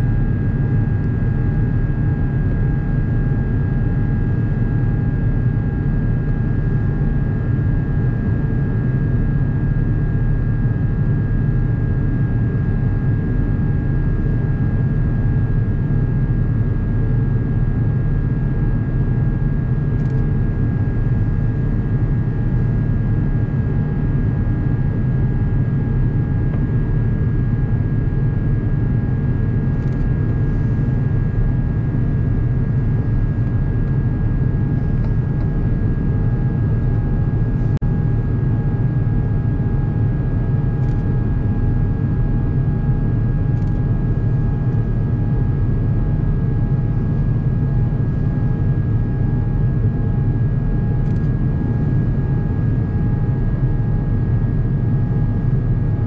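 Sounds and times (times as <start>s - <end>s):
airplane cabin engine rumble: 0.0s - 56.0s
faint steady hum: 0.0s - 56.0s.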